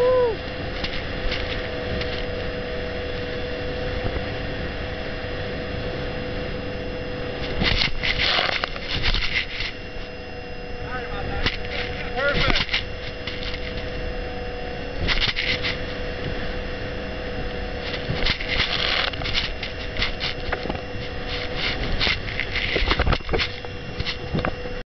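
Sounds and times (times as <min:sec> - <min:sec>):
speedboat engine drone: 0:00.0 - 0:24.8
wind buffeting microphone: 0:00.0 - 0:24.8.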